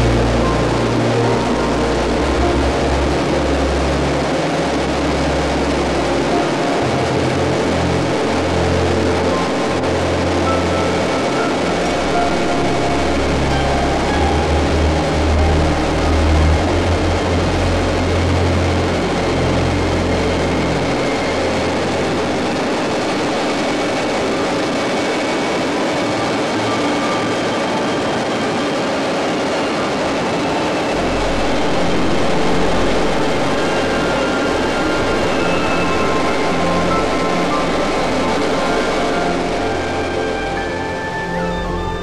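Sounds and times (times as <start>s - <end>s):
helicopter turbine and rotor noise: 0.0s - 42.0s.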